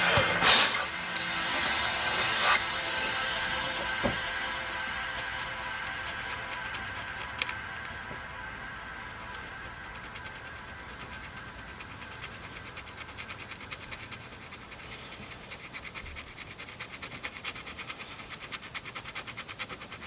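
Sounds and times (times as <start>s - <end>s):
metal tool scraping carbon: 0.0s - 20.0s.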